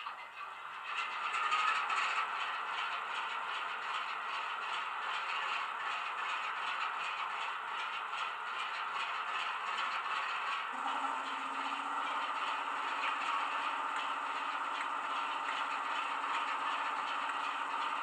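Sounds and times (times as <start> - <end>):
diesel engine running through small speaker: 0.0 - 18.0.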